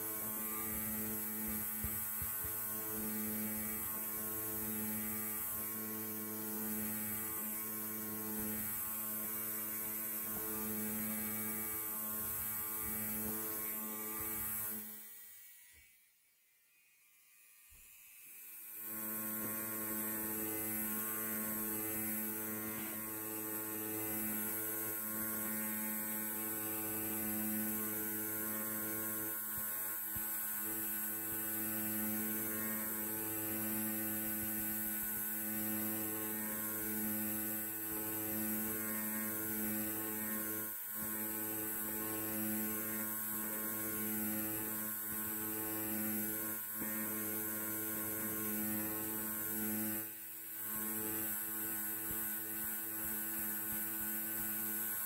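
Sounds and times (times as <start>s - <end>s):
electric hair clipper buzzing: 0.0s - 55.0s.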